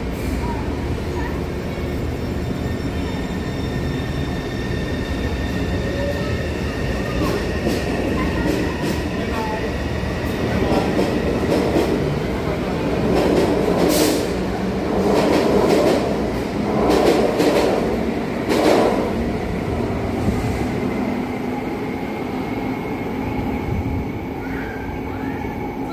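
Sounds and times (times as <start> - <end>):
subway train running noise: 0.0 - 25.9.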